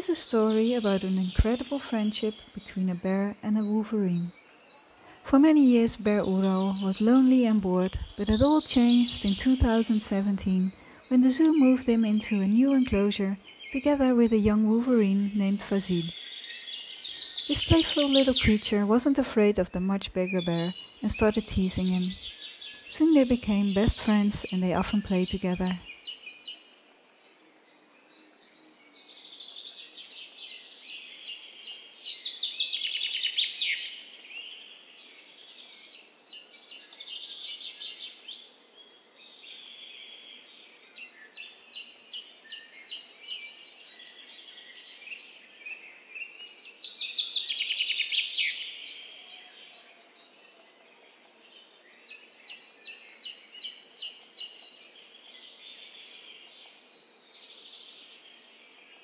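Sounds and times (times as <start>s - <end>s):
faint outdoor background noise: 0.0s - 59.0s
songbird singing: 0.0s - 59.0s.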